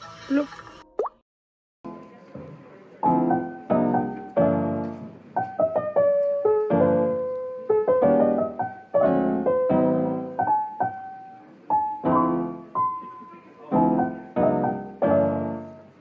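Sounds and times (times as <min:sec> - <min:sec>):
slow piano chords: 0:01.9 - 0:16.0.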